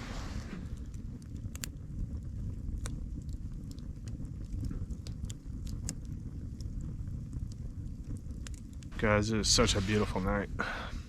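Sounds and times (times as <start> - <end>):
campfire crackling and popping: 0.0 - 11.0
wind rumble on microphone: 0.0 - 11.0.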